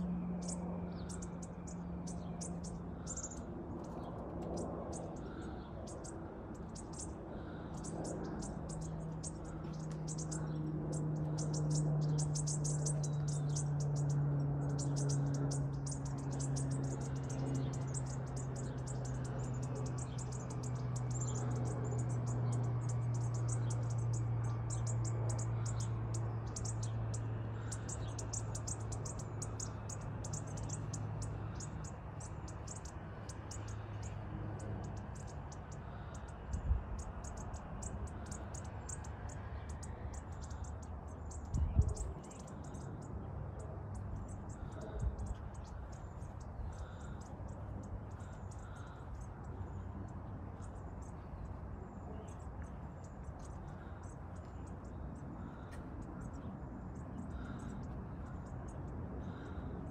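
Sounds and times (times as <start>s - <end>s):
songbirds chirping: 0.0s - 59.9s
steady low hum: 0.0s - 59.9s.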